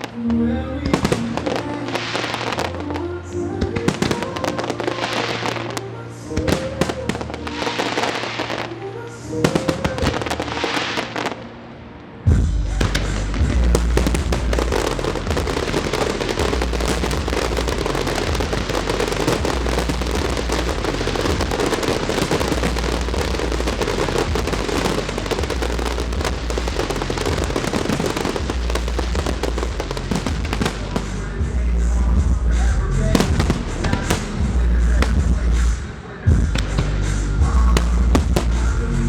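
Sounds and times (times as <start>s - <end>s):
fireworks bursting and crackling: 0.8s - 11.6s, 12.3s - 39.0s.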